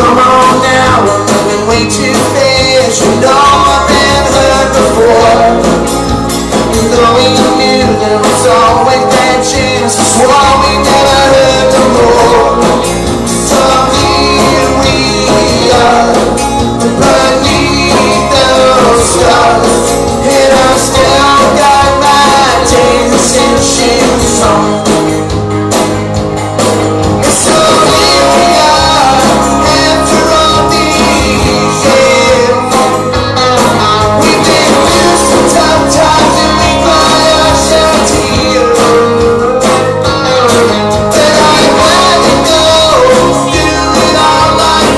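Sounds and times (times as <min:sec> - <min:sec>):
live band playing: 0:00.0 - 0:44.9
sung lead vocal: 0:00.0 - 0:44.9.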